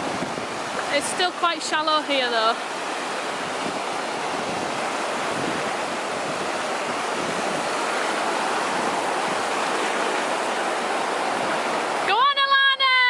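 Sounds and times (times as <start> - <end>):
sea waves washing on shore: 0.0 - 13.0.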